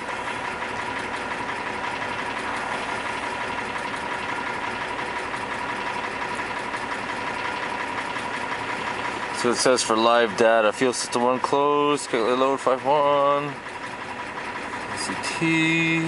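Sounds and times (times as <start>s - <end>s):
engine idling with knock: 0.0s - 16.0s.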